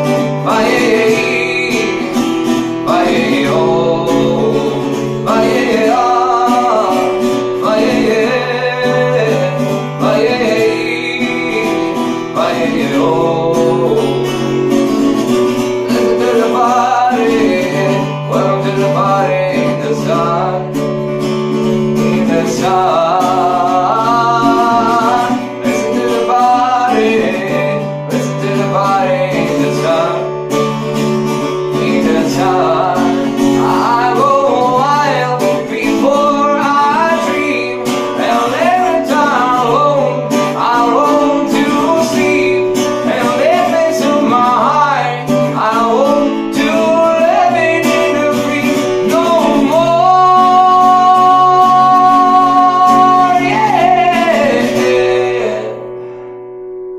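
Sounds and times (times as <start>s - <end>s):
man singing slow song: 0.0s - 56.2s
acoustic guitar: 0.0s - 56.9s.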